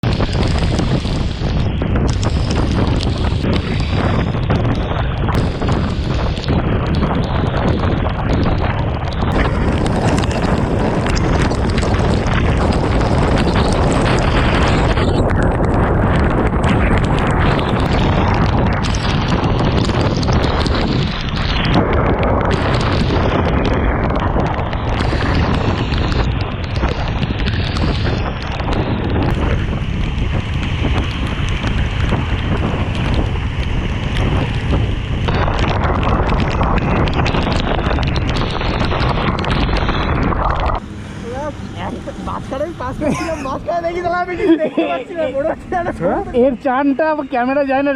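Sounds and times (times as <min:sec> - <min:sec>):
raindrops ticking on camera: 0:00.0 - 0:40.8
wind buffeting microphone: 0:00.0 - 0:47.9.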